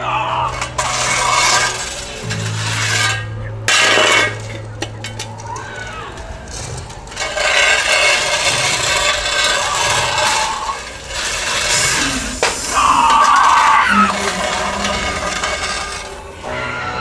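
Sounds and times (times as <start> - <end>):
low droning soundtrack: 0.0 - 17.0
shovel scraping pavement: 0.5 - 4.7, 6.5 - 16.5.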